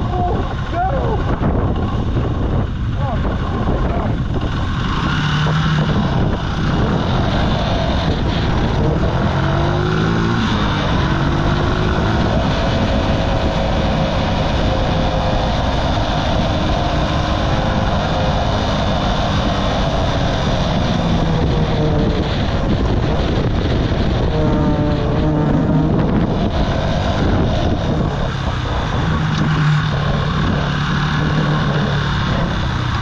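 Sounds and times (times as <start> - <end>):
motorcycle engine running: 0.0 - 33.0
wind rumble on microphone: 0.0 - 33.0.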